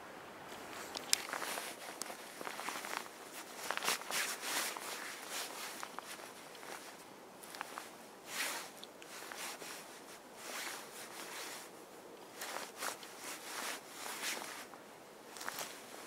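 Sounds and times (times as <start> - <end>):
faint outdoor hiss: 0.0 - 16.0
nylon jacket rustling: 0.5 - 16.0.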